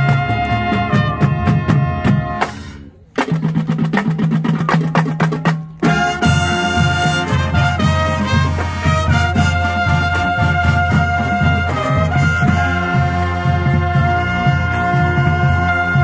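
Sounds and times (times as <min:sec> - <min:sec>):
fast drum beat: 0:00.0 - 0:16.0
marching band brass: 0:00.0 - 0:16.0.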